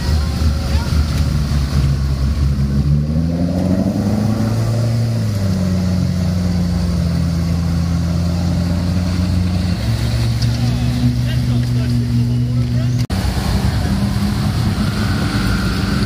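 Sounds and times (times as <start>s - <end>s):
engine revving under load: 0.0s - 16.0s.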